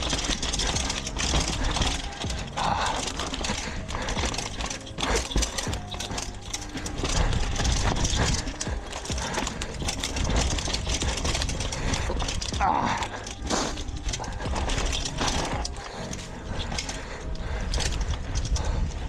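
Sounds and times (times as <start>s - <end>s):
mountain bike rattling over trail: 0.0s - 19.0s.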